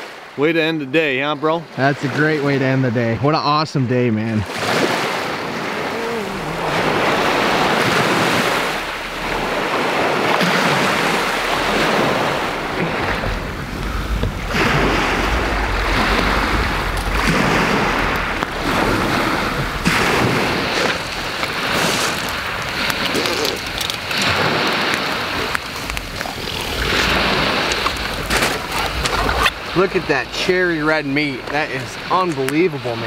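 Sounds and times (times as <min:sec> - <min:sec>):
waves washing onto cobble beach: 0:04.4 - 0:33.0
wind on microphone: 0:04.6 - 0:33.0
sharp crack: 0:04.9 - 0:32.7.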